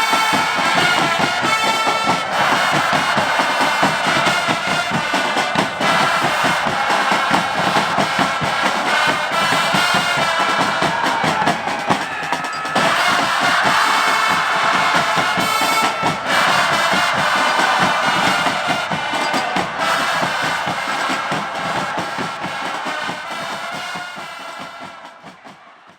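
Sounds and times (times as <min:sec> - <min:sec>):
crowd chanting: 0:00.0 - 0:25.9
drums beating: 0:00.0 - 0:25.9.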